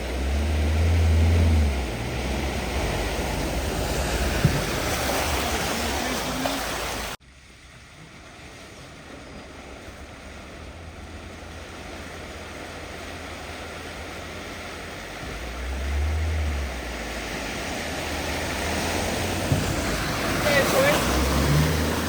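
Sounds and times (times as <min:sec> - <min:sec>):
vehicle engine rumble: 0:00.0 - 0:22.0
water rushing: 0:00.0 - 0:22.0.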